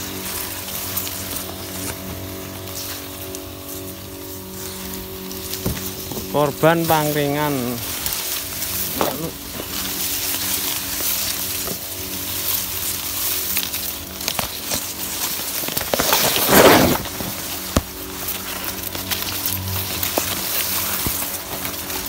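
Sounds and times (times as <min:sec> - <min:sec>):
crackles of cane: 0:00.0 - 0:22.0
leaves rustling against microphone: 0:00.0 - 0:22.0.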